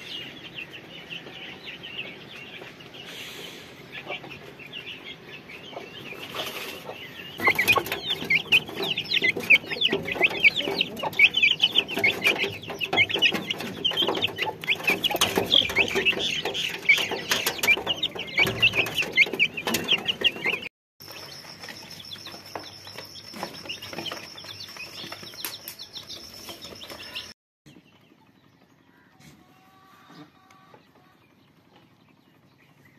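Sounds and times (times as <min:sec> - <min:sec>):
chicks peeping: 0:00.0 - 0:32.9.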